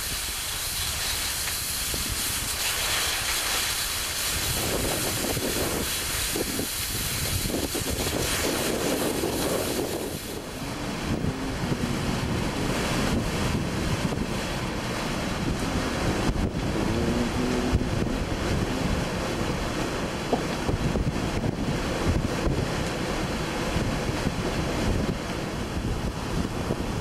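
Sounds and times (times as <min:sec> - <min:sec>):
strong wind on microphone: 0:00.0 - 0:27.0.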